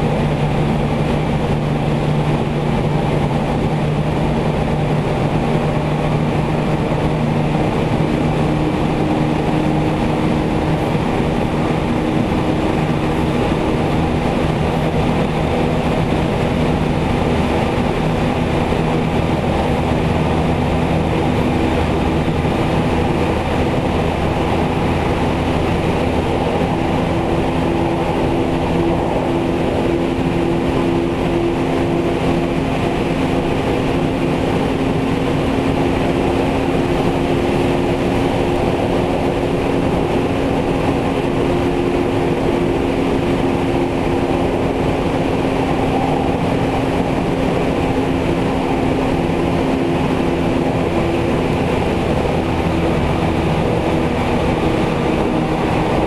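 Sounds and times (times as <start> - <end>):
train rolling noise: 0.0 - 56.0
two-tone train motor hum: 0.0 - 56.0.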